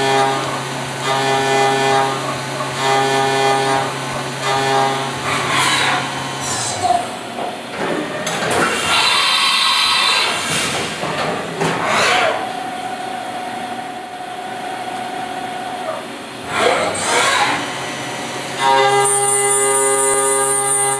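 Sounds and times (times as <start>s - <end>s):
machine whine: 0.0s - 20.9s.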